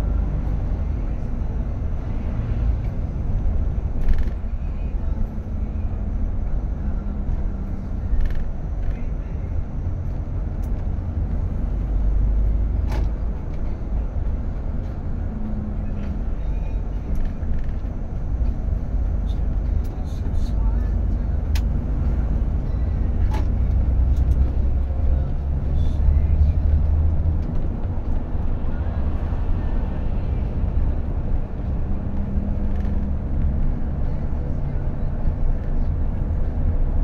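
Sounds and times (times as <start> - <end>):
engine and road rumble: 0.0 - 37.0.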